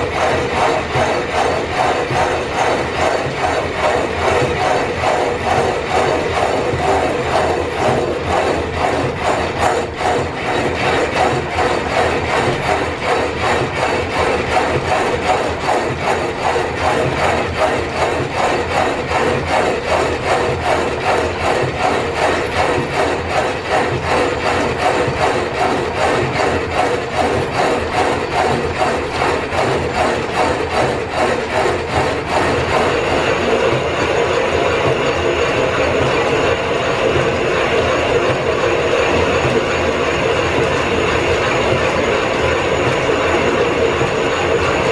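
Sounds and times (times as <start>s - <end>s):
machine tool rhythmic clatter: 0.0s - 44.9s.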